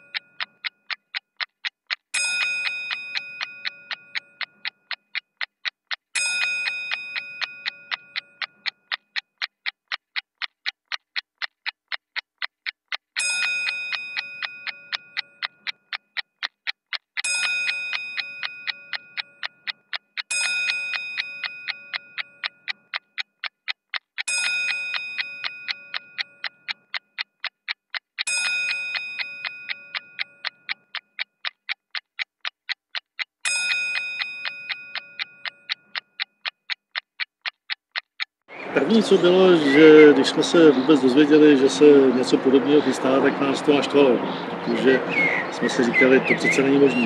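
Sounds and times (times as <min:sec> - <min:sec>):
clock ticking: 0:00.0 - 0:47.0.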